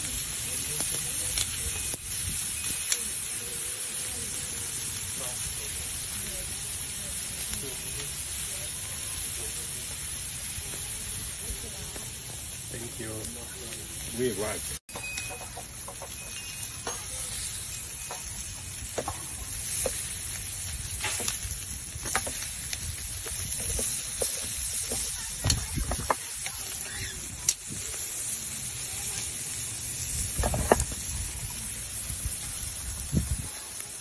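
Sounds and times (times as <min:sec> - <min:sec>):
meat sizzling on a grill: 0:00.0 - 0:34.0.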